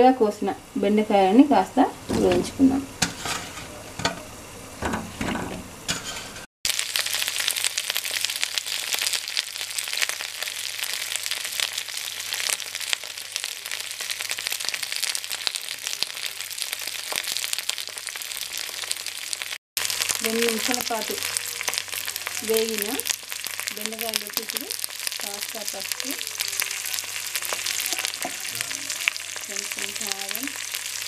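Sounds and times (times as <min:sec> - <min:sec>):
okra sizzling in oil: 0:00.6 - 0:31.0.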